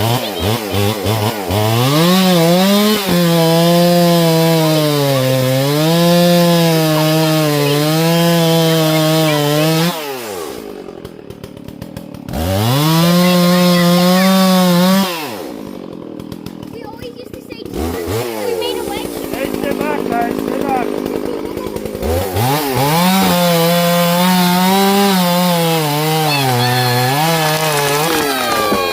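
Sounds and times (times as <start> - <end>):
chainsaw cutting brush: 0.0 - 28.9.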